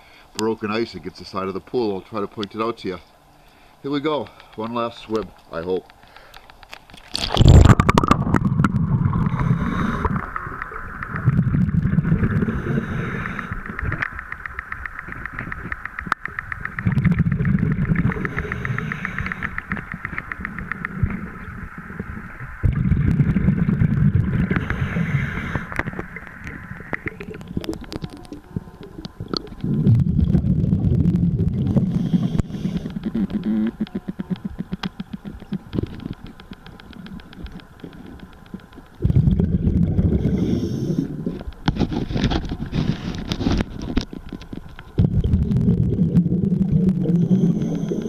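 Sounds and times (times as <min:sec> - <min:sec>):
underwater exhaled bubbles: 0:07.0 - 0:48.0.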